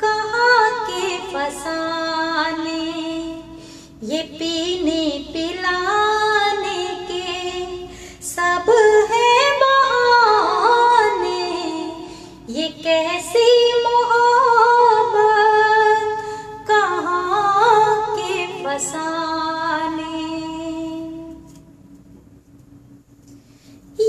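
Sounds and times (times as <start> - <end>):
woman singing into a microphone: 0.0 - 21.4.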